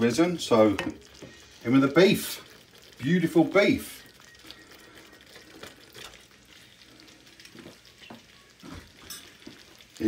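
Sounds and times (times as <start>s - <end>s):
sauce sizzling in frying pan: 0.0s - 10.0s.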